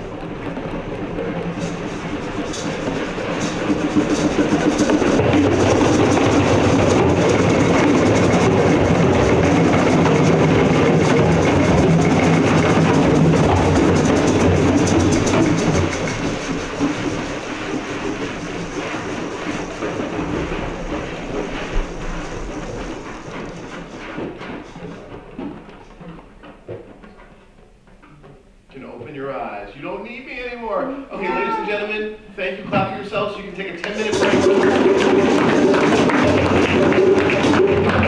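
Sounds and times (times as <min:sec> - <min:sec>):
hand drums patter like rain: 0:00.0 - 0:29.2, 0:29.9 - 0:31.9, 0:32.6 - 0:38.0.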